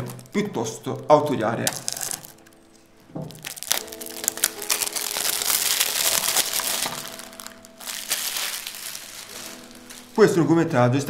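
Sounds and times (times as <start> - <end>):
plastic wrapping crinkling: 0.0 - 10.5
soft background music notes: 0.0 - 11.0.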